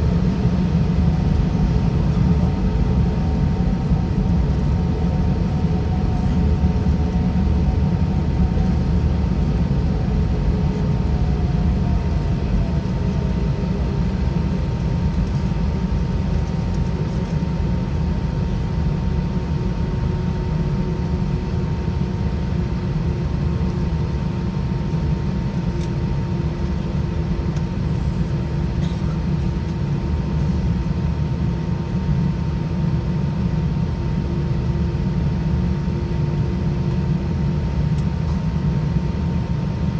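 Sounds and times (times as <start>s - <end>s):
aircraft cabin engine roar: 0.0s - 39.9s
faint steady whine: 0.0s - 39.9s.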